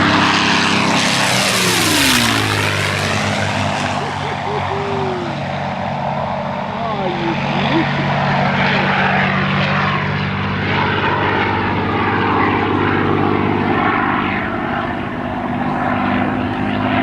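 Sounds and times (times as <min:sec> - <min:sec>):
propeller aircraft engine: 0:00.0 - 0:17.0
propeller and air rush: 0:00.0 - 0:17.0.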